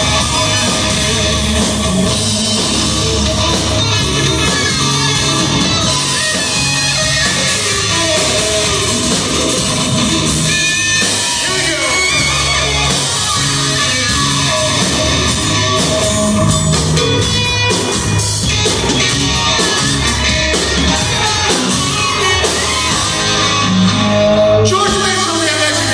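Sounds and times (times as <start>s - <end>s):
bass guitar: 0.0s - 25.9s
drum kit: 0.0s - 25.9s
electric guitar: 0.0s - 25.9s.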